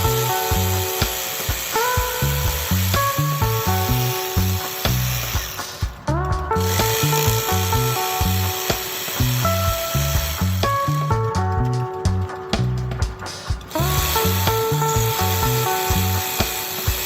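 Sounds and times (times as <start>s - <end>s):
electronic music with synth and beat: 0.0s - 17.0s.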